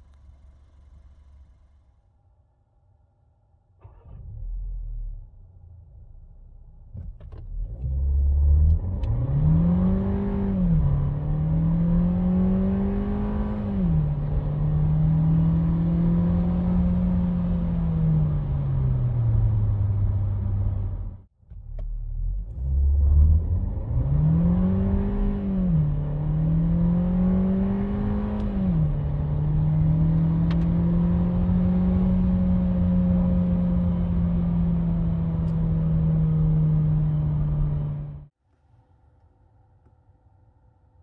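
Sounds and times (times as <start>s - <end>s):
car engine accelerating: 3.8s - 5.4s, 7.0s - 38.3s.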